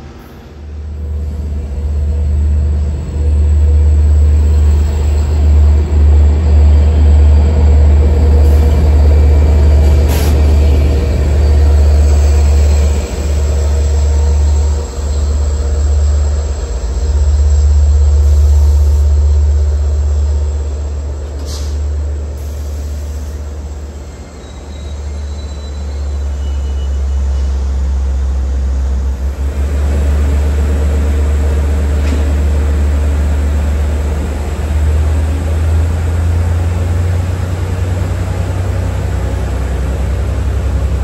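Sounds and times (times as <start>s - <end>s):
train low rumble: 0.0s - 41.0s.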